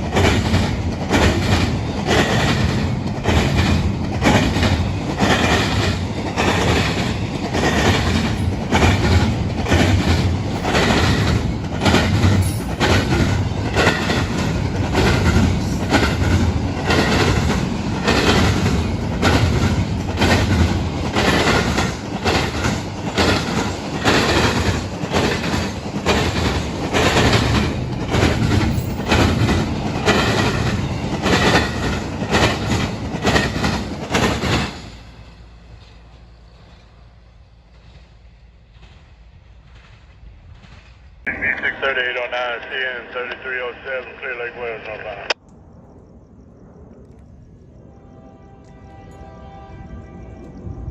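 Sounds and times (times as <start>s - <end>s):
train wheels clicking over rail joints: 0.0s - 41.3s.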